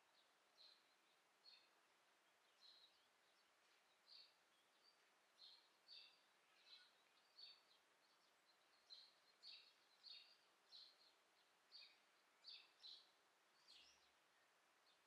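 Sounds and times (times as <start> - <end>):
outdoor ambience hiss: 0.0 - 15.0
small bird chirping: 0.0 - 15.0.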